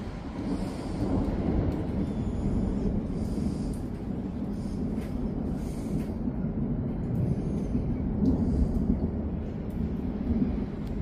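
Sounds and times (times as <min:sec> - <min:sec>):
rolling thunder: 0:00.0 - 0:11.0.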